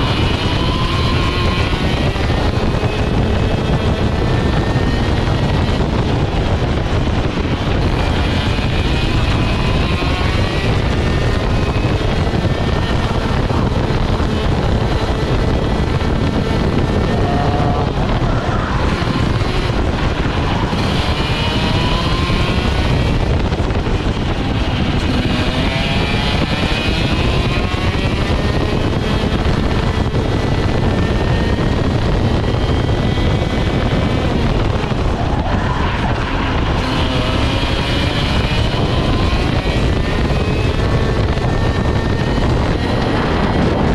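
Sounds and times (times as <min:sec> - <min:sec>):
kart engine racing: 0:00.0 - 0:43.9
wind rushing over microphone: 0:00.0 - 0:43.9.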